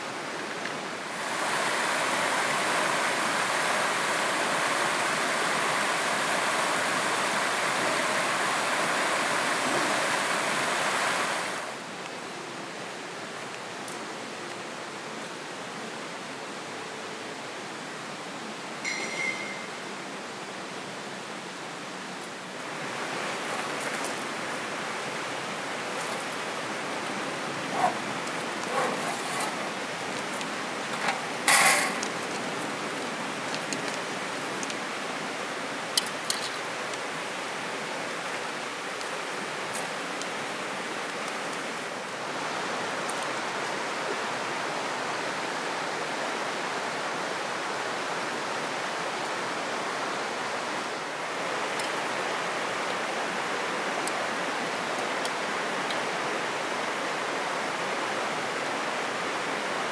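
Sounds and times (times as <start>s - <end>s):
flowing water rushing: 0.0s - 12.0s, 20.0s - 59.9s.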